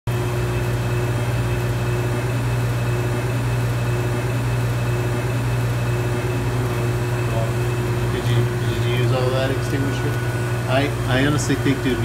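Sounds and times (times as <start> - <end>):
deep electrical hum: 0.1 - 12.0.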